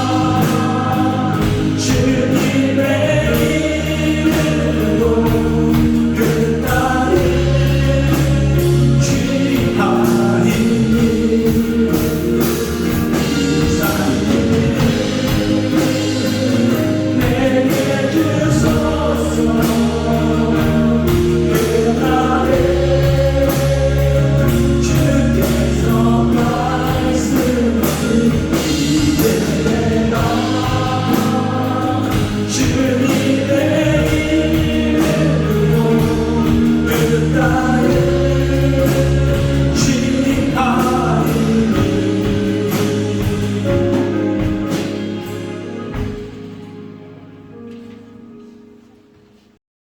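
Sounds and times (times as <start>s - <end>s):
band playing: 0.0s - 49.6s
congregation singing worship song: 0.0s - 49.6s.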